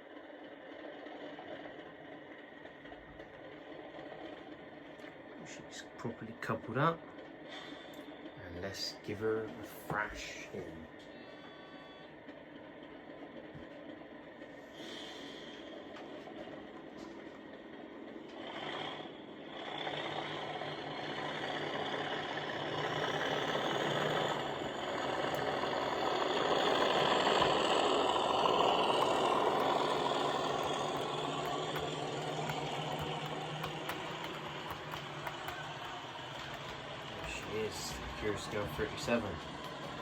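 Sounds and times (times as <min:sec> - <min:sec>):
model diesel engine sound from speaker: 0:00.0 - 0:40.0.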